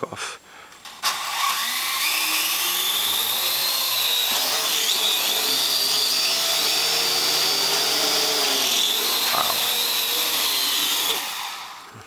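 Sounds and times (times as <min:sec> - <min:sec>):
drone propellers whirring: 0:01.0 - 0:11.9.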